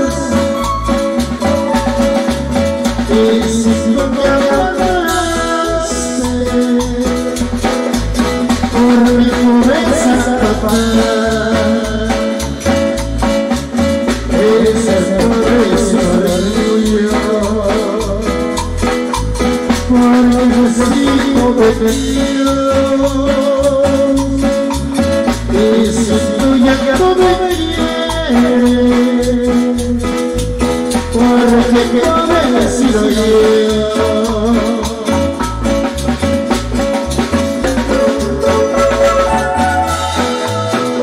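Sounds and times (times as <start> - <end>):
held melody line: 0.0 - 41.0
latin dance music: 0.0 - 41.0
pulsing bass: 0.0 - 41.0.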